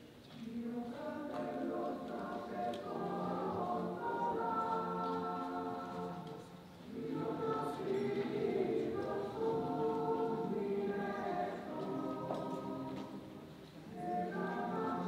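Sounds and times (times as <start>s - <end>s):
choir singing long held notes: 0.4s - 15.0s.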